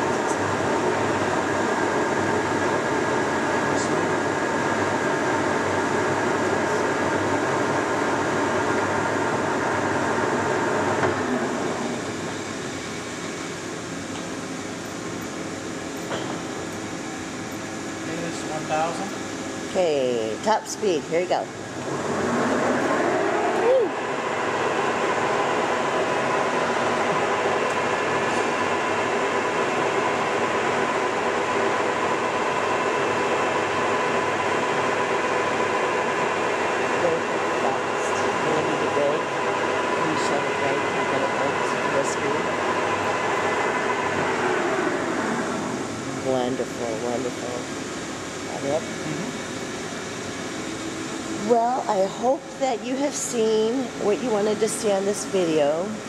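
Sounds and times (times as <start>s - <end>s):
lathe whirring: 0.0s - 19.8s, 21.4s - 52.1s.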